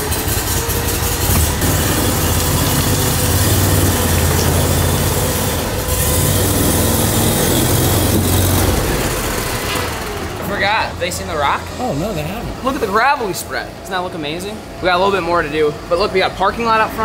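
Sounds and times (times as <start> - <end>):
tracks clattering: 0.0 - 13.7
vehicle engine humming: 0.0 - 17.0.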